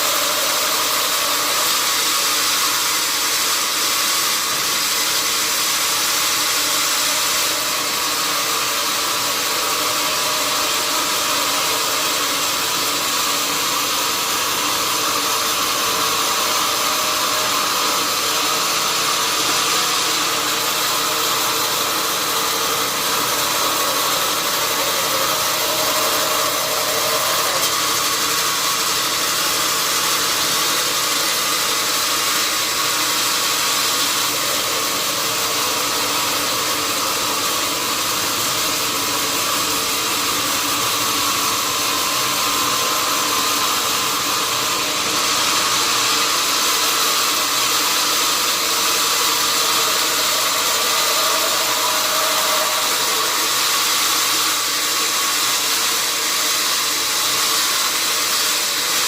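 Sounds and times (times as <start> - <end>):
sawmill saw whirring: 0.0 - 59.0.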